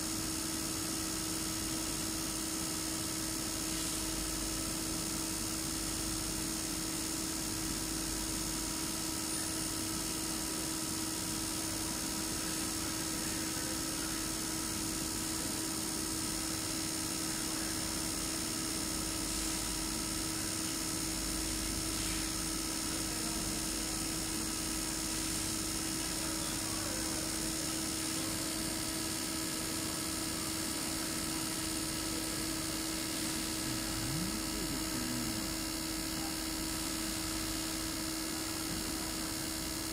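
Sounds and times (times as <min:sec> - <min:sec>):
test bench pump humming and whining: 0:00.0 - 0:39.9.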